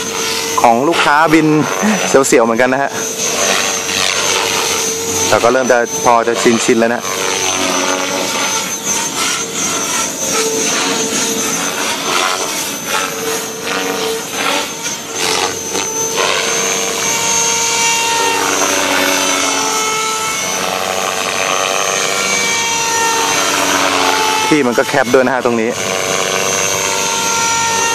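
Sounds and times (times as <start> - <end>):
rc helicopter motor whine and rotors: 0.0 - 27.9.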